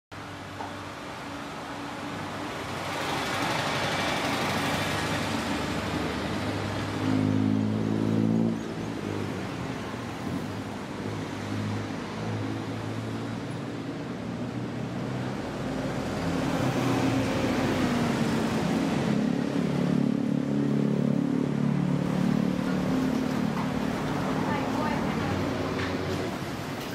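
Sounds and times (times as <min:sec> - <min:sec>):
road traffic passing: 0:00.1 - 0:26.9.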